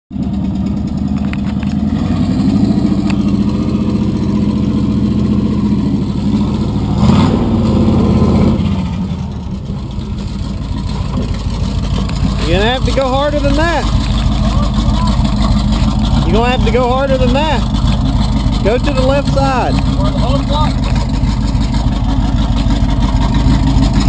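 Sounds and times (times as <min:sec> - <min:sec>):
truck engine revving: 0:00.1 - 0:24.0.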